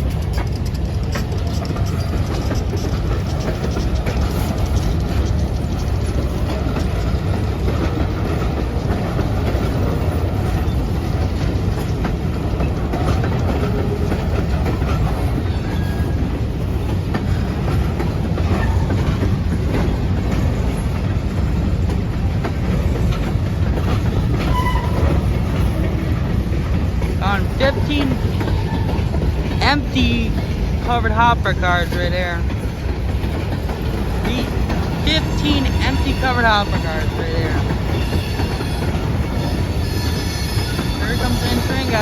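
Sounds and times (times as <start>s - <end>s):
freight train rumbling past: 0.0s - 42.0s
wheels clacking over rails: 0.0s - 42.0s.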